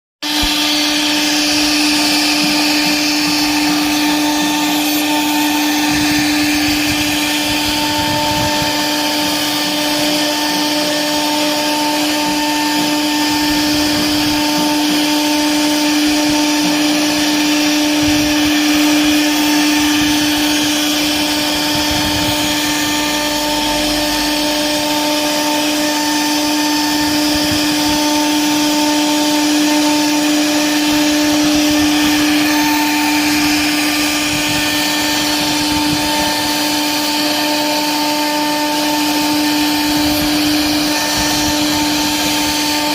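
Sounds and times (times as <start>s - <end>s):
electric motor whining: 0.2s - 42.9s.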